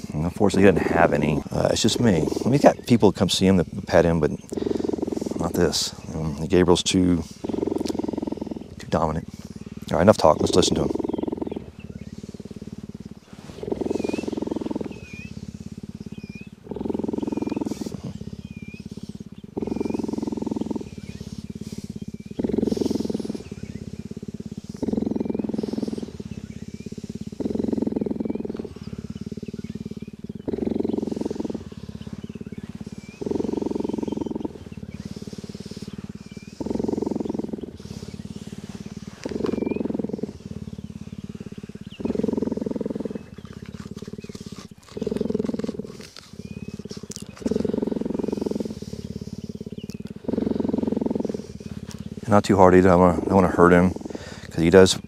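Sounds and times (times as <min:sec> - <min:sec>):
cheetah purring: 0:00.0 - 0:55.0.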